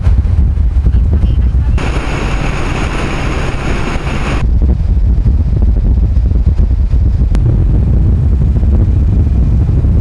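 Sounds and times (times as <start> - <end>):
low wind rumble: 0.0 - 10.0.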